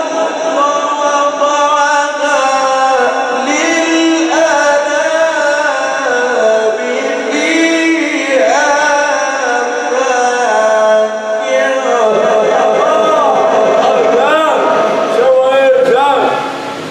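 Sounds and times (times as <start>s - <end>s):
man chanting recitation: 0.0s - 16.6s.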